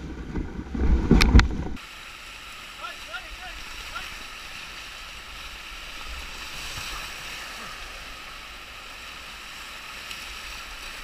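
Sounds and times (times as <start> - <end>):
whitewater rapids rushing: 1.8 - 11.0.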